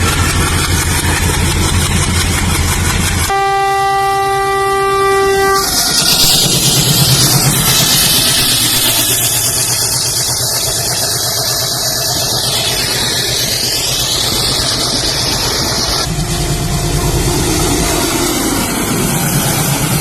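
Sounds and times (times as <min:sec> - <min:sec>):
diesel engine throbbing: 0:00.0 - 0:20.0.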